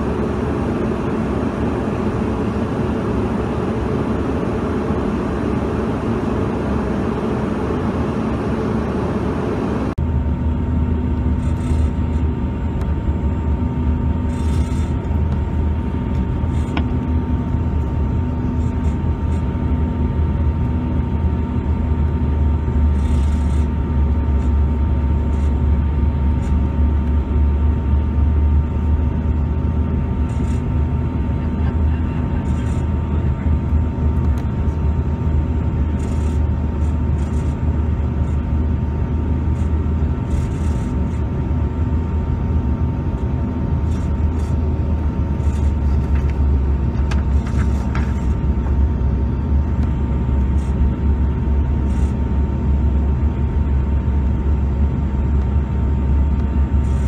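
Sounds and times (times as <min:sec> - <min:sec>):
deep rumble with steady whine: 0:00.0 - 0:57.0
jet cabin air and engine noise: 0:00.0 - 0:57.0.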